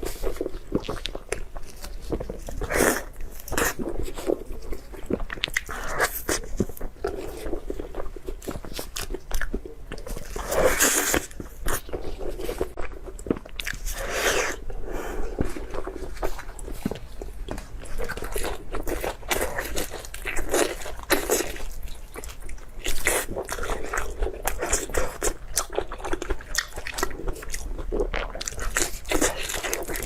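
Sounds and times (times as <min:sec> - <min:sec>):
person chewing crunchy food: 0:00.0 - 0:30.0.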